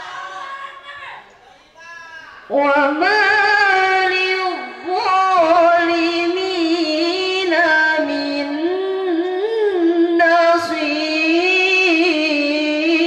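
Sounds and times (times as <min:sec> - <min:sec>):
woman chanting into microphone: 0:01.8 - 0:13.0.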